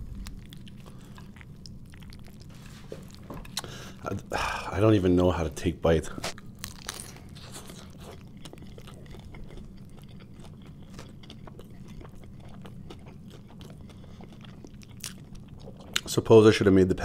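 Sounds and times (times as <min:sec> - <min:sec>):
person chewing burger: 0:00.0 - 0:04.6, 0:06.3 - 0:16.1.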